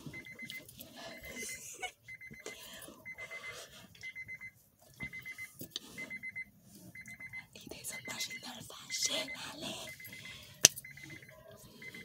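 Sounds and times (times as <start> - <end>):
electronic alarm beeping: 0.0 - 12.0.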